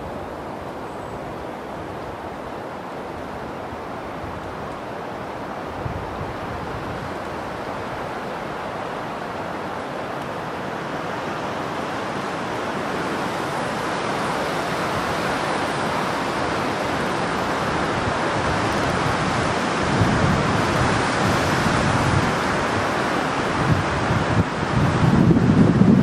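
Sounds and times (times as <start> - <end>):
wind buffeting microphone: 0.0 - 26.0
wind rushing through reeds: 0.0 - 26.0.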